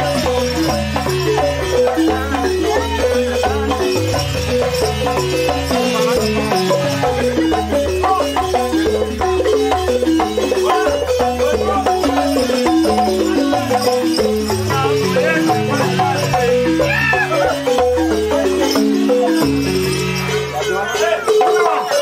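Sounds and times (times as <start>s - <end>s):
shaker rattle: 0.0s - 22.0s
wooden xylophone music: 0.0s - 22.0s.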